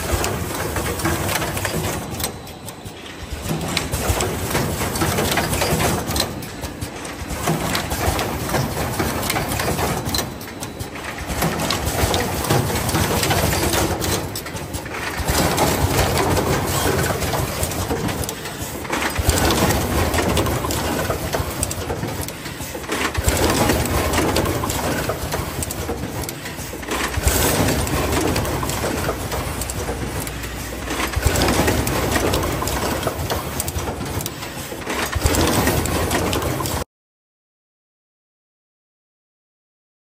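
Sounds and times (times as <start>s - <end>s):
machine mechanical clatter: 0.0s - 36.8s.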